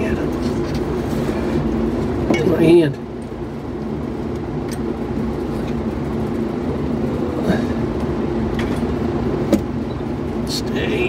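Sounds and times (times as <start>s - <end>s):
machine rumbling: 0.0s - 11.0s.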